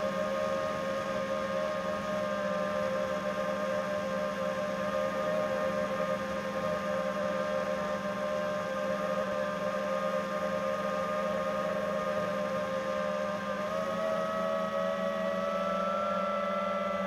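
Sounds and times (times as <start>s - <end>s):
quadcopter motors whining: 0.1s - 17.0s.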